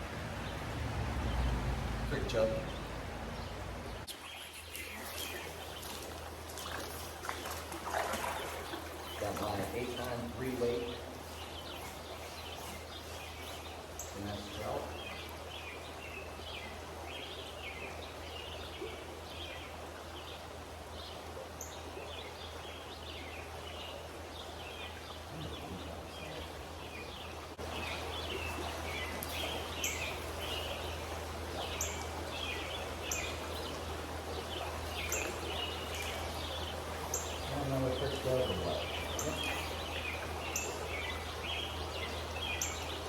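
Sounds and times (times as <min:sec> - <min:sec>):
running water rushing: 0:00.0 - 0:43.0
songbirds chirping: 0:00.0 - 0:43.0.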